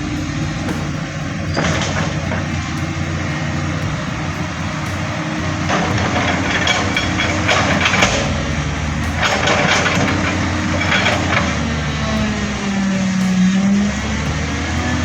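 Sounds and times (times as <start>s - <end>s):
bursts of harsh noise: 0.0s - 15.0s
excavator diesel engine running: 0.0s - 15.0s.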